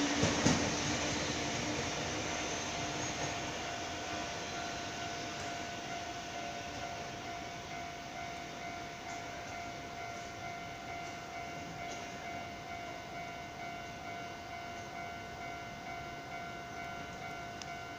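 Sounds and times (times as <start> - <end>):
electric train whine: 0.0 - 17.9.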